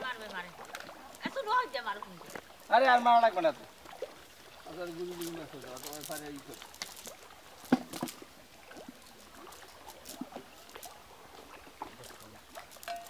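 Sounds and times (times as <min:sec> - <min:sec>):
soft rustling of net: 0:00.0 - 0:13.0.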